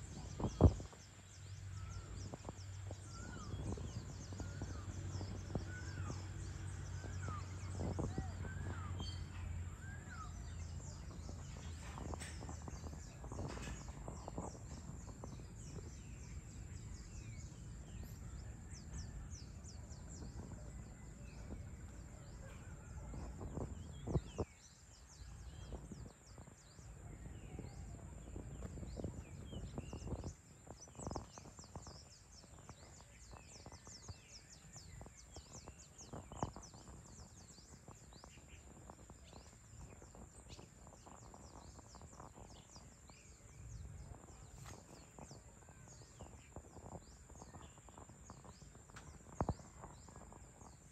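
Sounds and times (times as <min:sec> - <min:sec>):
birds chirping: 0:00.0 - 0:50.9
low background rumble: 0:00.0 - 0:50.9.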